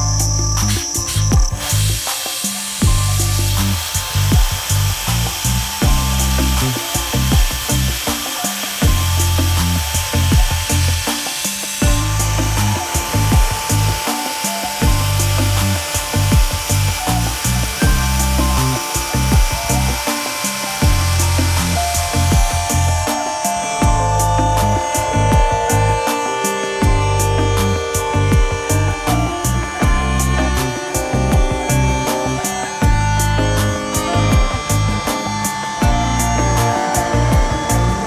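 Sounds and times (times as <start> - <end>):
background music with bass: 0.0 - 38.0
cnc router machining whine: 0.0 - 38.0.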